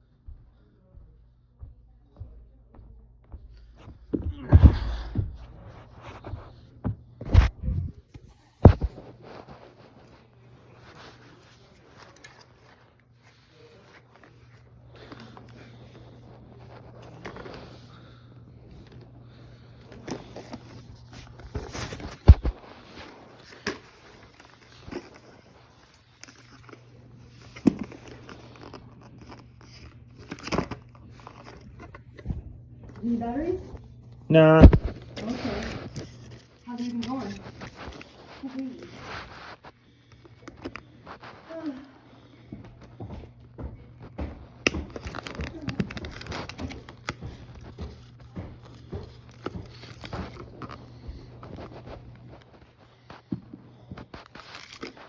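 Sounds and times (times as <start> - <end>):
plastic and cardboard crinkling: 8.1 - 55.0.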